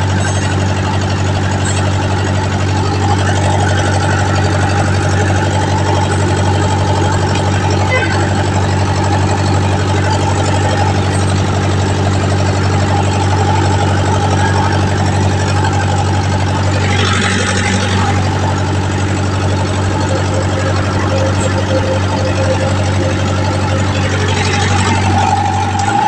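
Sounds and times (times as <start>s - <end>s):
generator humming: 0.0s - 26.0s.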